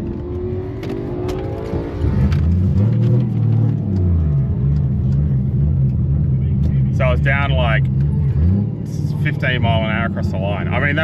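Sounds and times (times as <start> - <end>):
car engine running: 0.0 - 11.0
deep engine drone: 0.0 - 11.0.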